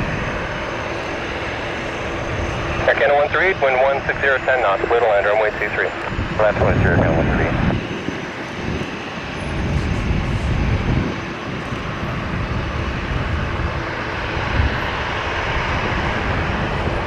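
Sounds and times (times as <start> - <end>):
turboprop aircraft taking off: 0.0 - 17.0.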